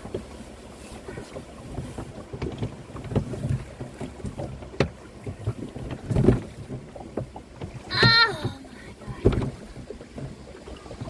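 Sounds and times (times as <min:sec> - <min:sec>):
paddle strokes splashing: 0:00.0 - 0:11.0
knocks against canoe hull: 0:01.1 - 0:10.4.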